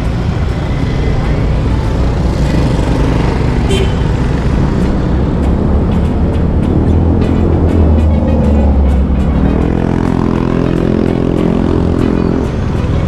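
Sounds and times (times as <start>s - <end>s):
motorcycle engine running: 0.0s - 13.0s
traffic: 0.0s - 13.0s.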